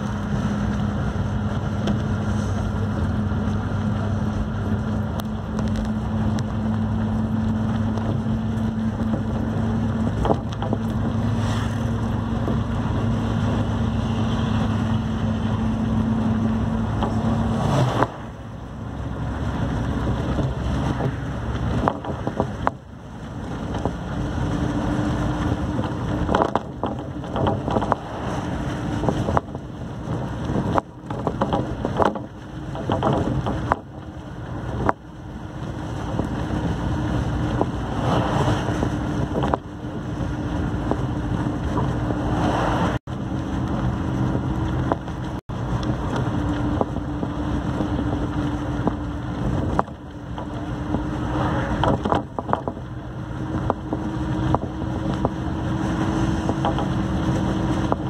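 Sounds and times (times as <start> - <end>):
road and wind noise: 0.0 - 58.0
vehicle engine hum: 0.0 - 58.0.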